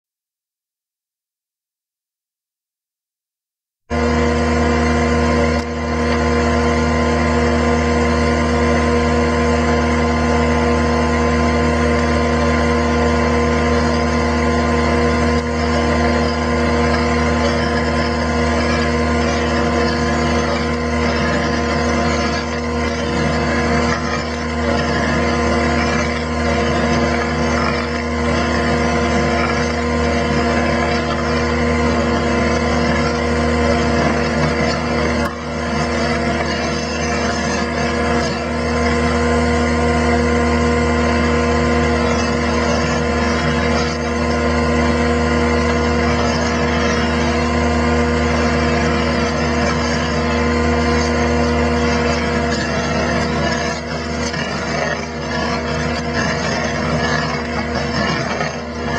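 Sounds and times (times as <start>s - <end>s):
auger grinding into stump: 3.9s - 58.9s
diesel engine running under load: 3.9s - 58.9s.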